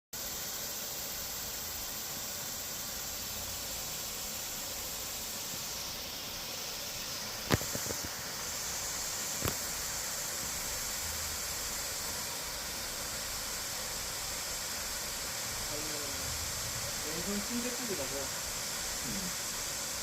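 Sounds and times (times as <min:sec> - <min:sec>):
steady outdoor hiss: 0:00.2 - 0:20.0.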